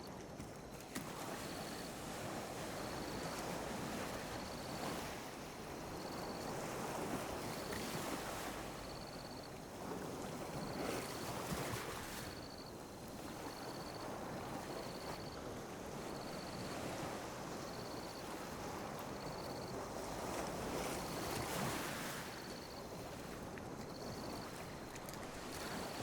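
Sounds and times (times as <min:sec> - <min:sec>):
small waves lapping on beach: 0:00.0 - 0:26.0.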